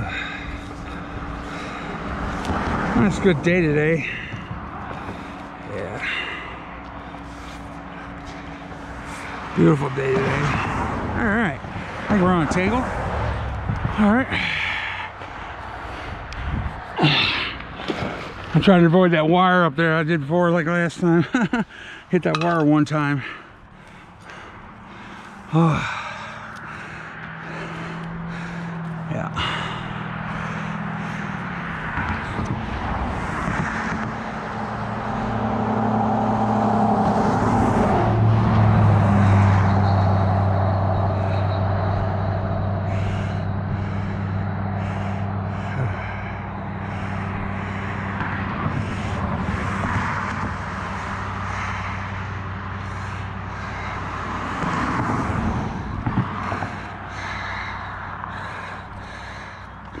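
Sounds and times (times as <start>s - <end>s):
vehicles passing on road: 0.0s - 60.0s.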